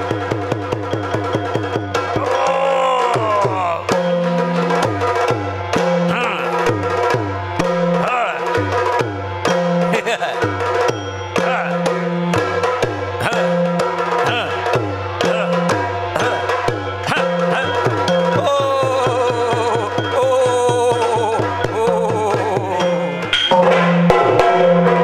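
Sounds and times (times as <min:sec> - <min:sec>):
fast rhythmic drumming: 0:00.0 - 0:25.0
hand-cymbal clicking beats: 0:00.0 - 0:25.0.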